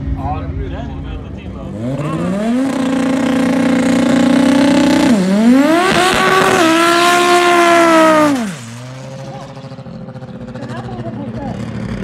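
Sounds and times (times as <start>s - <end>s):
car engine revving high: 1.0s - 12.0s.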